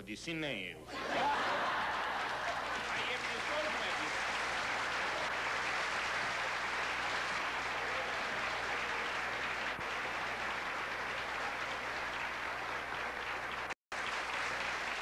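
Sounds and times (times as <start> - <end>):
audience applauding: 1.1 - 15.0.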